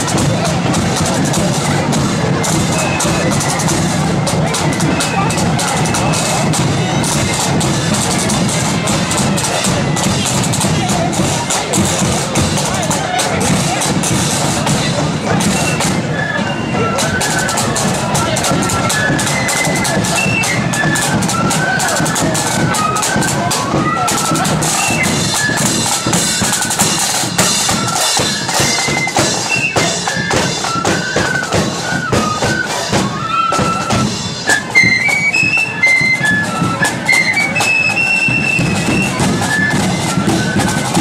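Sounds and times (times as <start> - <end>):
flutes playing melody: 0.0 - 41.0
side drums: 0.0 - 41.0.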